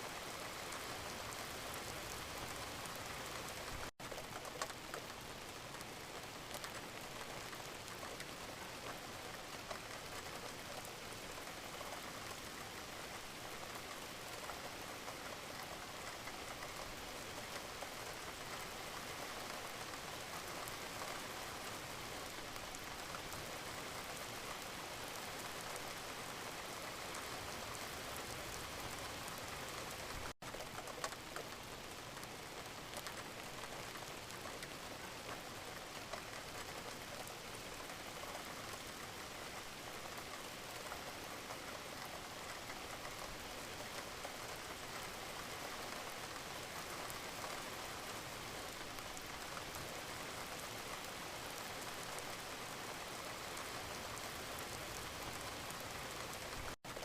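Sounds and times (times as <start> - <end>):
steady rain: 0.0 - 57.0
raindrops ticking: 0.5 - 57.0.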